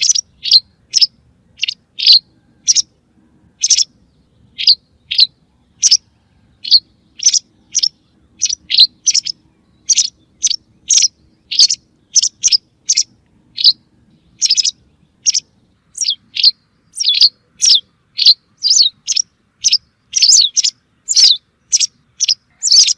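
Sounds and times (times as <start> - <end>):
high bird chirps: 0.0 - 22.9.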